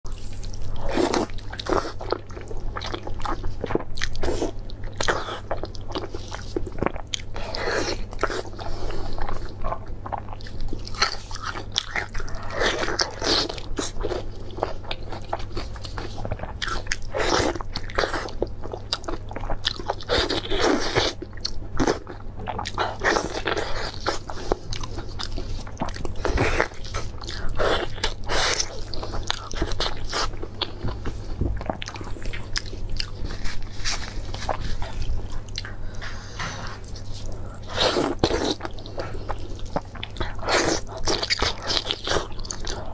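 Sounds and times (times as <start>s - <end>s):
biting and chewing meat: 0.1s - 42.9s.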